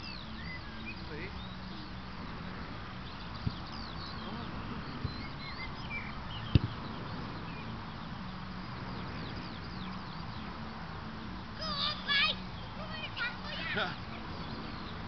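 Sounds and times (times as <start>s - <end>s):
birds chirping: 0.0s - 15.0s
outdoor background hiss and hum: 0.0s - 15.0s.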